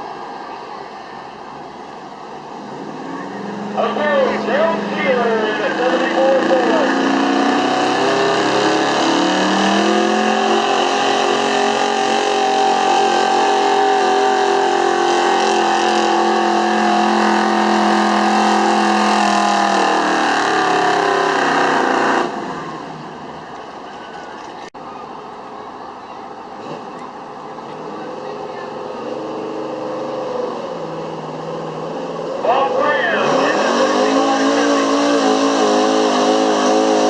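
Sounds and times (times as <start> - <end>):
outdoor background noise: 0.0 - 37.0
pickup engine at full throttle: 1.5 - 24.7, 26.6 - 37.0.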